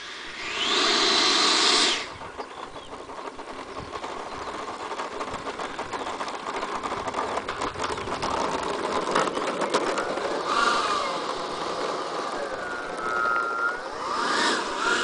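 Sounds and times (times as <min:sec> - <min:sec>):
electric ducted fan whirring: 0:00.0 - 0:06.0, 0:06.8 - 0:15.0.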